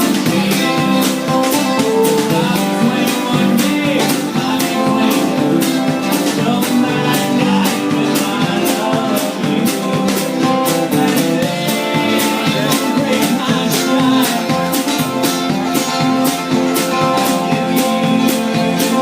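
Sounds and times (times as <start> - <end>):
guitar and plucked strings: 0.0 - 19.0
steady percussion beat: 0.0 - 19.0.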